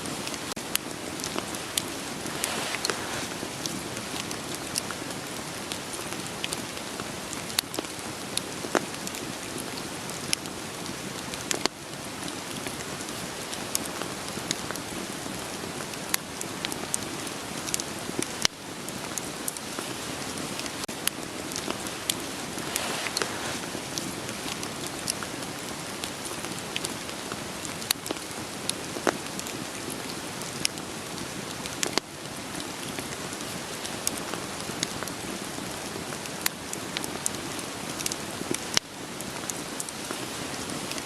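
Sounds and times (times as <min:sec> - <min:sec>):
rain hissing: 0:00.0 - 0:41.0
wood fire crackling: 0:00.0 - 0:41.0.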